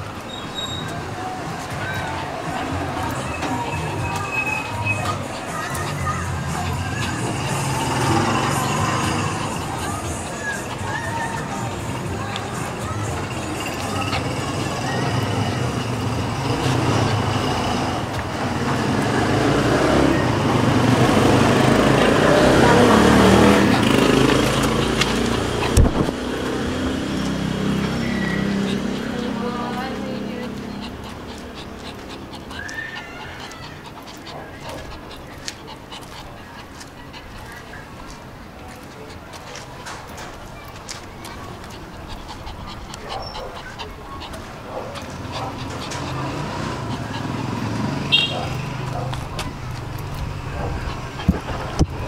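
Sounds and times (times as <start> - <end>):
vehicle engine humming: 0.0 - 52.0
dog panting: 1.4 - 52.0.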